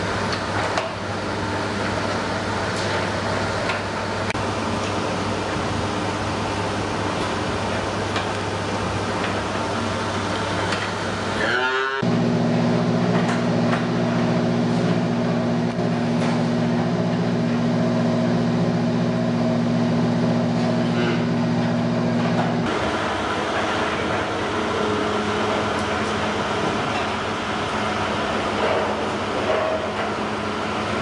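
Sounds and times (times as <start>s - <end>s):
machinery hum: 0.0s - 31.0s.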